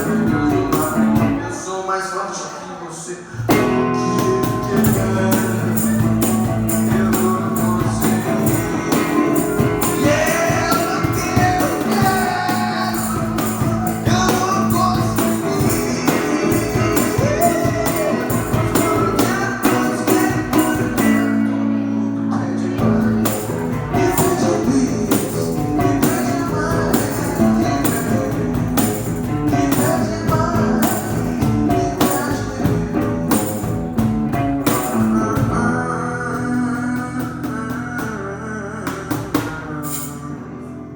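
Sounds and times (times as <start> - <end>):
rock band playing: 0.0 - 1.4, 3.5 - 22.1, 22.7 - 38.2
tambourine beat: 0.0 - 1.4, 3.5 - 21.5, 22.8 - 35.8, 39.0 - 40.4.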